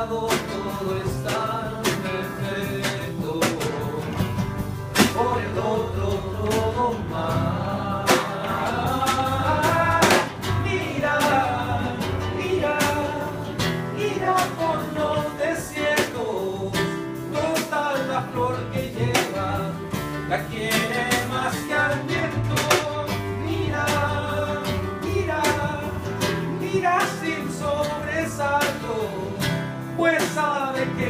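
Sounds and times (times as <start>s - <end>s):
acoustic guitar: 0.0s - 31.0s
live band playing: 0.0s - 31.0s.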